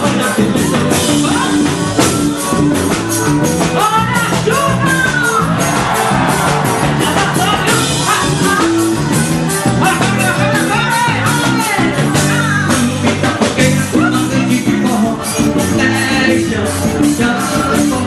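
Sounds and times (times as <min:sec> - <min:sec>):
live band music: 0:00.0 - 0:18.0
percussion beat: 0:00.0 - 0:18.0.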